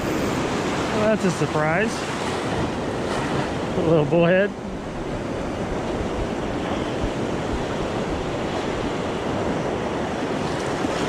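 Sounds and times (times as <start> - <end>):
ocean waves breaking on beach: 0.0 - 11.0
wind buffeting microphone: 0.0 - 11.0.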